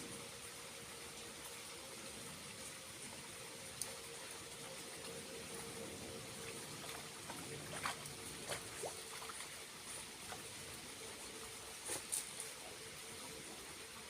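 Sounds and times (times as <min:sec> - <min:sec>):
water trickling from waterfall: 0:00.0 - 0:14.0.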